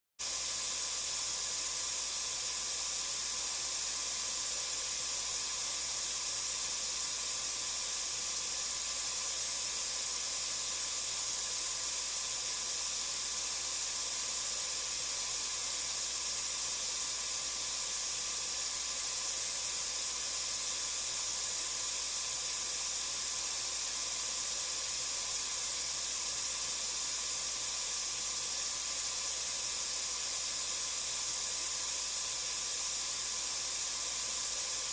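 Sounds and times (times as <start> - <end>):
vacuum cleaner running: 0.2 - 34.9.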